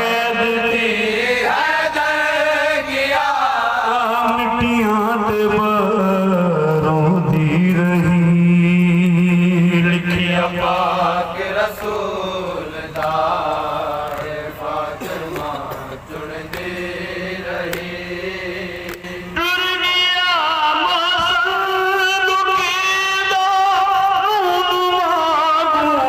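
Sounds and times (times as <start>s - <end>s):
steady low drone: 0.0s - 21.9s
men chanting a lament: 0.0s - 26.0s.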